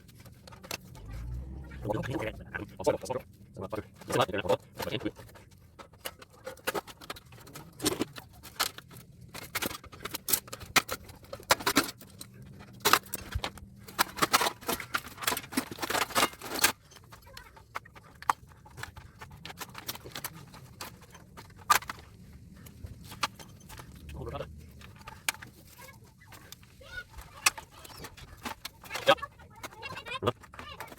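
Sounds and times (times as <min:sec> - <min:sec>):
metal scraps clinking: 0:00.0 - 0:30.9.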